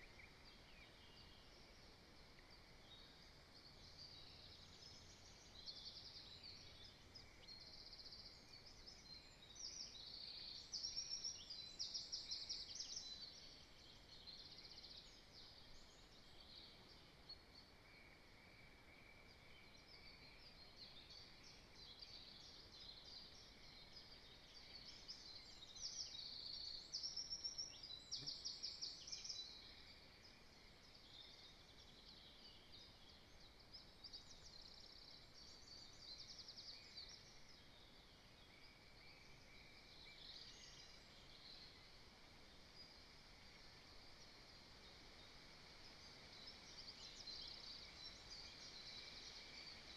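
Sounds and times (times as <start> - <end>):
faint songbirds singing: 0.0 - 49.9.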